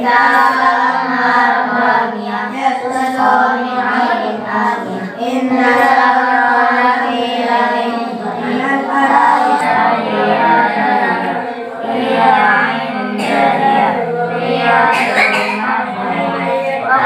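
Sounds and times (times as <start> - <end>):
girls chanting recitation in unison: 0.0 - 17.0.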